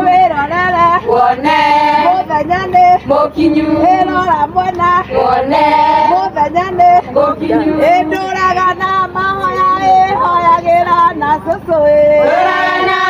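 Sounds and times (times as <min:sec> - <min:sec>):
women singing unaccompanied: 0:00.0 - 0:13.0.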